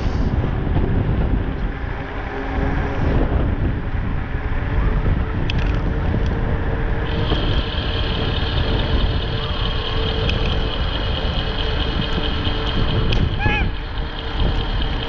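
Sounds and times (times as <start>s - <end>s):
road and tyre rumble: 0.0s - 15.0s
steady high whine: 0.0s - 15.0s
wind buffeting microphone: 0.0s - 15.0s.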